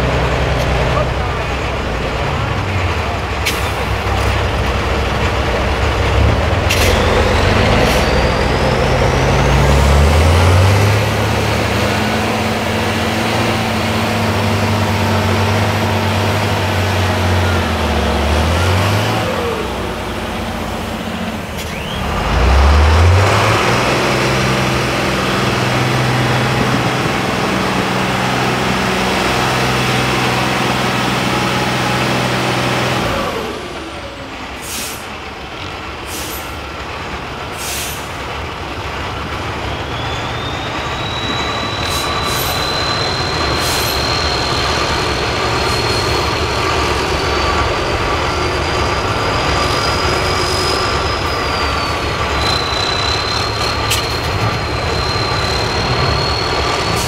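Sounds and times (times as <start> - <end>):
truck diesel engine revving: 0.0 - 57.0.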